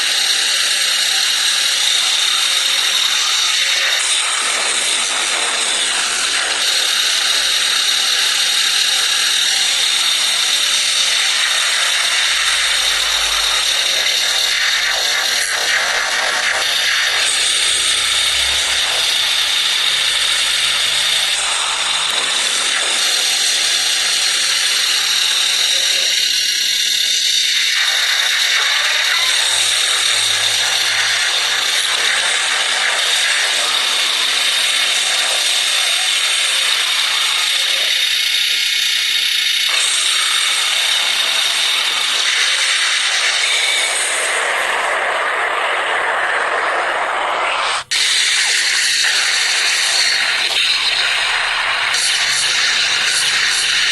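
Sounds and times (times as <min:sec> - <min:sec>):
harsh mechanical noise: 0:00.0 - 0:53.9.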